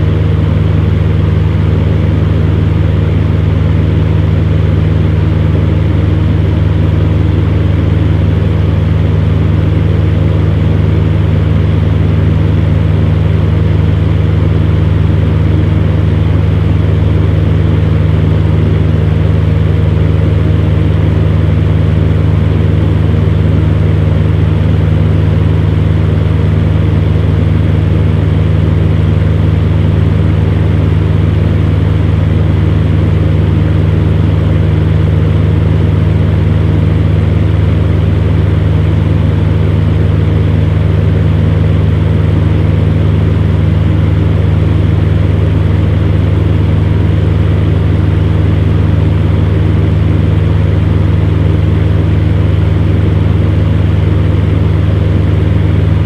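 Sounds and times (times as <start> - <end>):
fan heater motor hum: 0.0 - 56.0.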